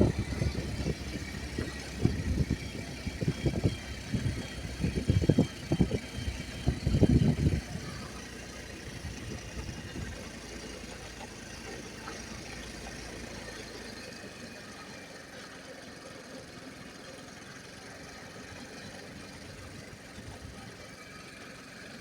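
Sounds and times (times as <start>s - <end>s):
motorbike engine: 0.0s - 22.0s.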